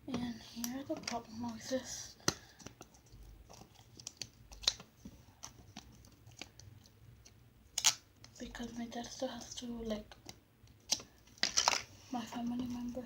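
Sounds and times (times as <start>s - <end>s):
slime squishing with small pops: 0.1s - 8.4s, 9.3s - 11.9s.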